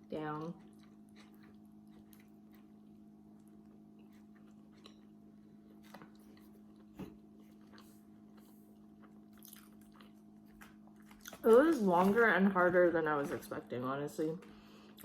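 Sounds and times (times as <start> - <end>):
person chewing food: 0.0 - 11.7, 14.4 - 15.0
low steady hum: 0.0 - 15.0.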